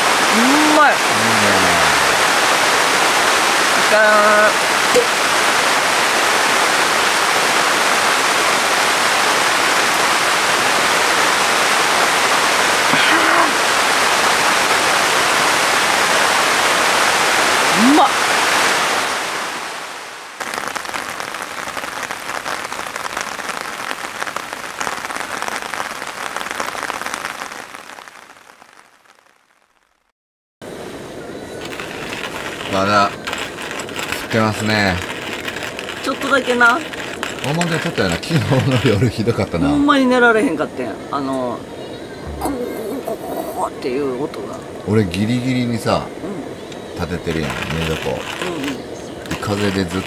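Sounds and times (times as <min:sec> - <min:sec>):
heavy rain on a tent: 0:00.0 - 0:40.6, 0:44.7 - 0:46.2, 0:46.8 - 0:50.0.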